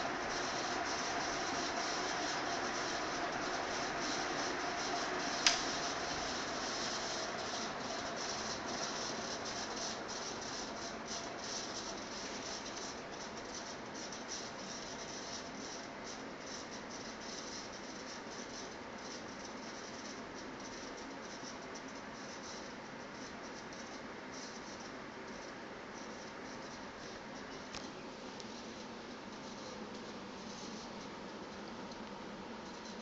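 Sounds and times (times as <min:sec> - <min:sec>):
ceiling fan air rush: 0:00.0 - 0:33.0
fan rattling ticks: 0:00.0 - 0:33.0.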